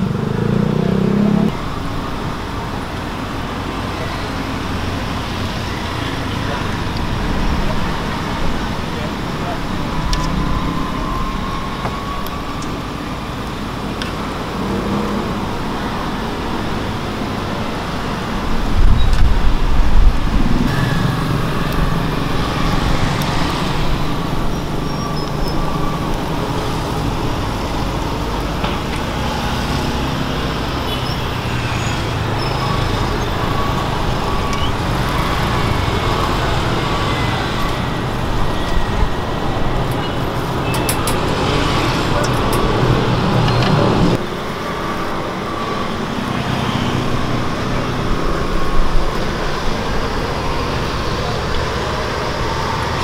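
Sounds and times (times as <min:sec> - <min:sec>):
road traffic noise: 0:00.0 - 0:53.0.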